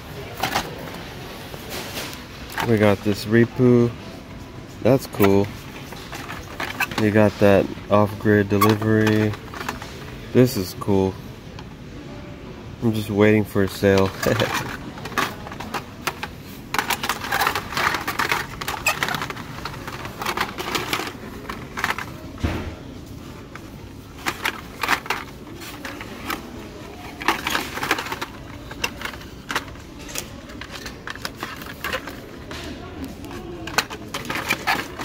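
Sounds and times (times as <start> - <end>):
blister packs clacking and rustling: 0.2 - 4.2, 4.8 - 11.2, 13.0 - 35.0.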